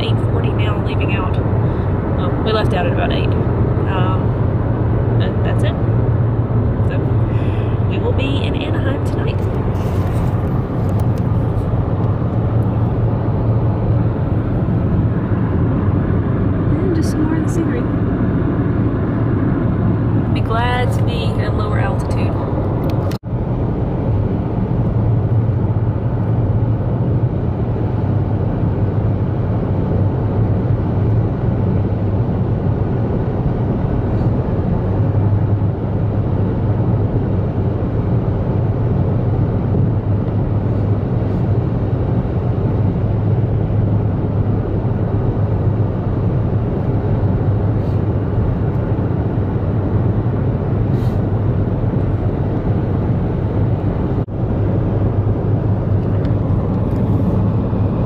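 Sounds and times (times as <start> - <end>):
car cabin road and engine drone: 0.0 - 58.0
low hum: 0.0 - 58.0.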